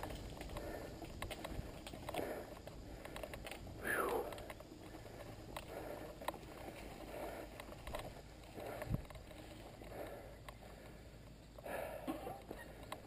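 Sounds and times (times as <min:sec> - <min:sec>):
faint clicks: 0:00.0 - 0:11.7, 0:12.3 - 0:13.0
heavy breathing: 0:00.0 - 0:13.0.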